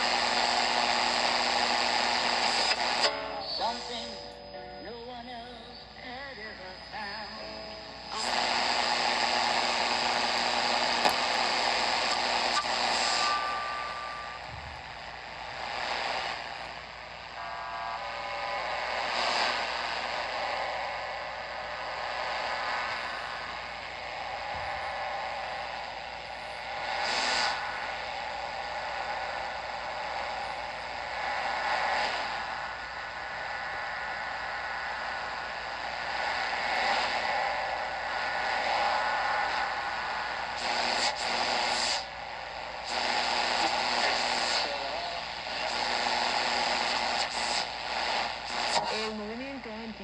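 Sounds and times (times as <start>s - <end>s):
whistling radio tones: 0.0s - 49.7s
radio static hiss: 0.0s - 50.0s.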